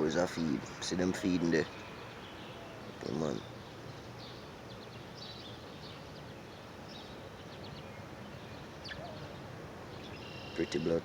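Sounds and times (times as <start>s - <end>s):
outdoor background hiss: 0.0s - 11.0s
small birds chirping: 0.0s - 11.0s.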